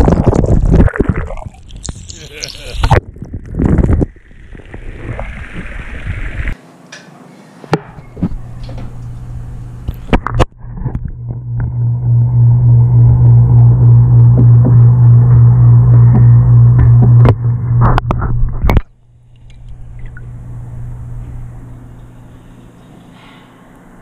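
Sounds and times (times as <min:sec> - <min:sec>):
steady low hum: 0:01.2 - 0:24.0.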